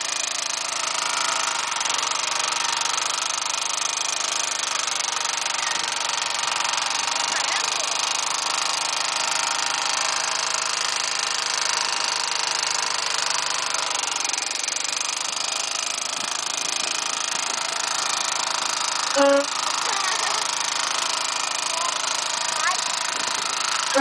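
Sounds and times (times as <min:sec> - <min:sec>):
boat engine running rattly: 0:00.0 - 0:24.0.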